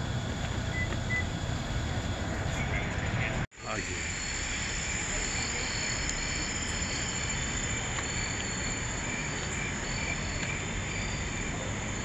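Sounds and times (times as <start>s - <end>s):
crickets and insects chirping: 0.0s - 12.0s.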